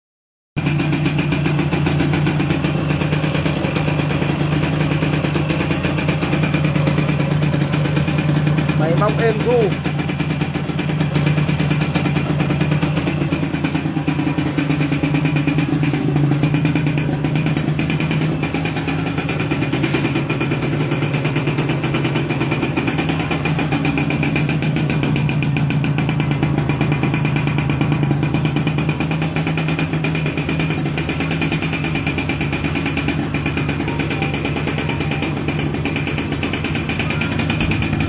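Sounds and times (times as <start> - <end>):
motorcycle engine idling: 0.6 - 38.0.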